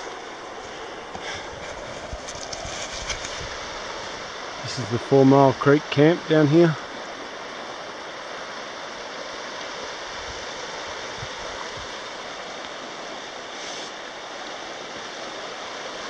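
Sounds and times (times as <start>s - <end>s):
creek flowing over rocks: 0.0s - 16.0s.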